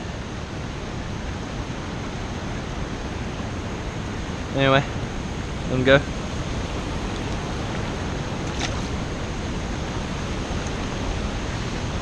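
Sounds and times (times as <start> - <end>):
river water over rapids: 0.0 - 12.0.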